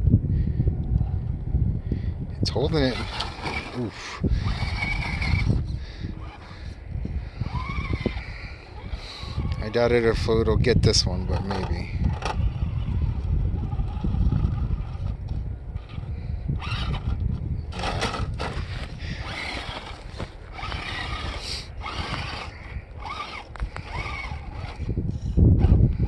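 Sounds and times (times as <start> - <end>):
wind rumble on microphone: 0.0 - 26.0
electric motor whining: 2.5 - 26.0.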